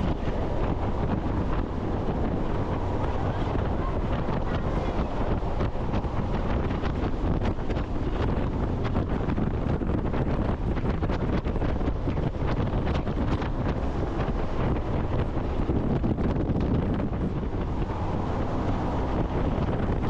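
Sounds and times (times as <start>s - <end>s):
boat engine: 0.0s - 20.0s
wind buffeting microphone: 0.0s - 20.0s.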